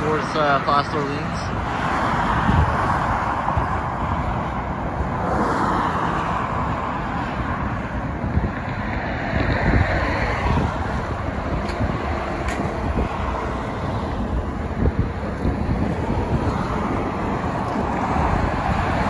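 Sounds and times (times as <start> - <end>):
highway traffic passing: 0.0 - 19.0
wind buffeting microphone: 0.0 - 19.0.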